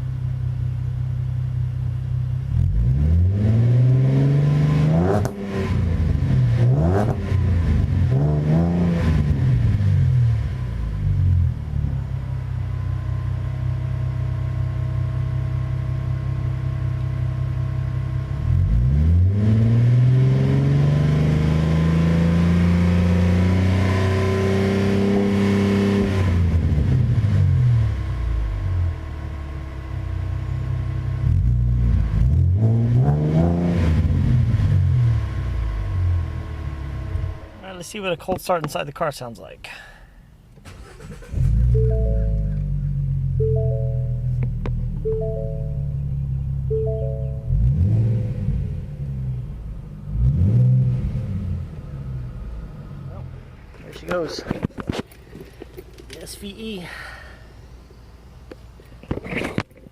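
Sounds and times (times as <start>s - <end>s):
car engine idling and revving: 0.0s - 39.6s, 40.3s - 59.9s.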